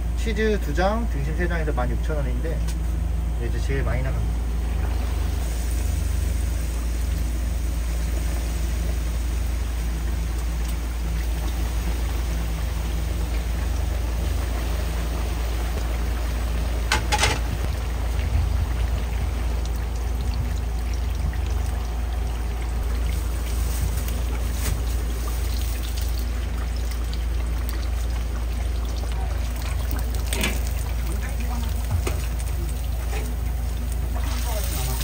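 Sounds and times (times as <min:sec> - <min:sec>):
low hum: 0:00.0 - 0:35.0
oil bubbling and sizzling: 0:00.0 - 0:35.0.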